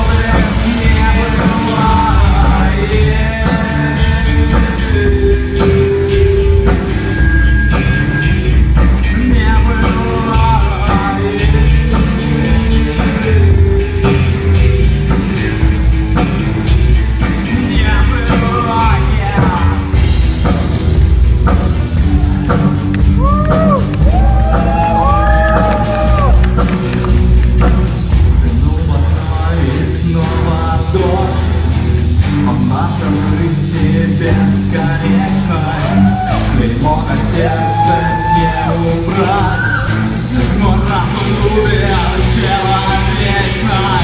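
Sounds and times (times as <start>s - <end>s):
person singing: 0.0s - 20.0s, 22.0s - 27.0s, 28.3s - 44.0s
drum kit steady beat: 0.0s - 44.0s
rock band playing: 0.0s - 44.0s.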